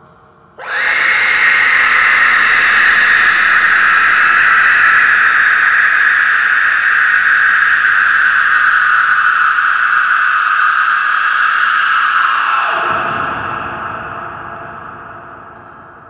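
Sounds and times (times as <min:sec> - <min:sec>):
loud horror scream: 0:00.6 - 0:16.0.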